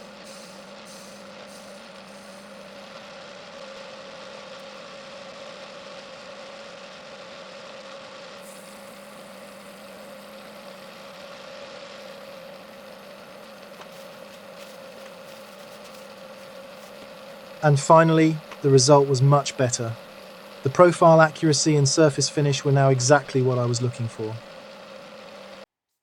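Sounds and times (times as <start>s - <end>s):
lathe motor hum: 0.0s - 25.7s.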